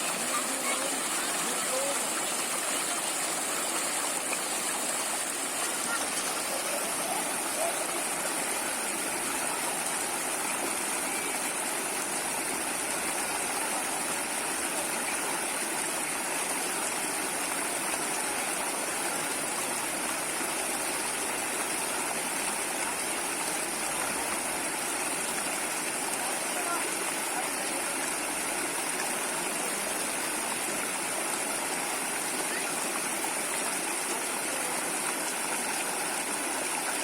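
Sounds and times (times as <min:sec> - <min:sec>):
water rushing in a stream: 0:00.0 - 0:37.0.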